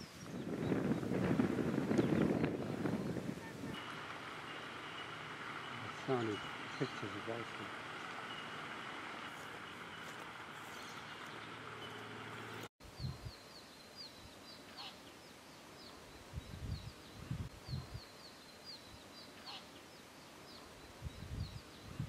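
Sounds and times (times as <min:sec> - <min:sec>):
outdoor background noise: 0:00.0 - 0:22.0
small bird chirping: 0:03.7 - 0:22.0.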